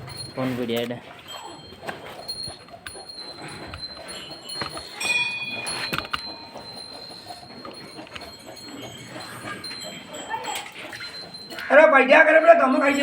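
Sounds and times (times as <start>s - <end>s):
metallic ringing chime: 0.0s - 13.0s.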